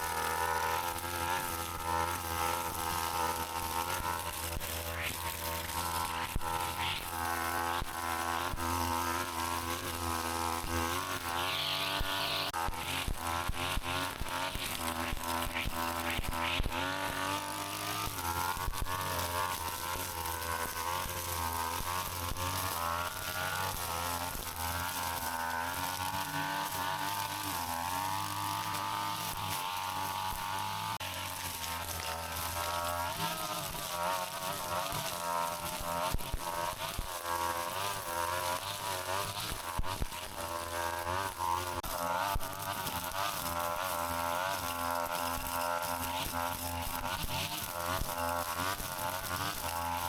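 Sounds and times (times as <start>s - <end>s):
brush cutter engine running: 0.0s - 50.0s.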